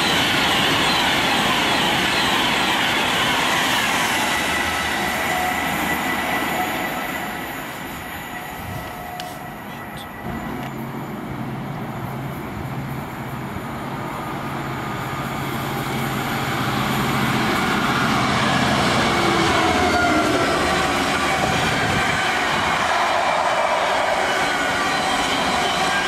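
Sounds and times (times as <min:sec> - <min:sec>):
diesel locomotive engine running: 0:00.0 - 0:26.0.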